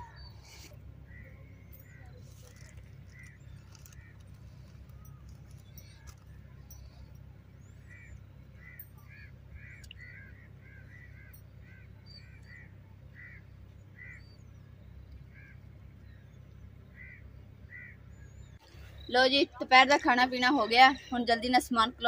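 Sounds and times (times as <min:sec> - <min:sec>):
repeated bird calls: 0:00.0 - 0:22.0
steady low rumble: 0:00.0 - 0:22.0.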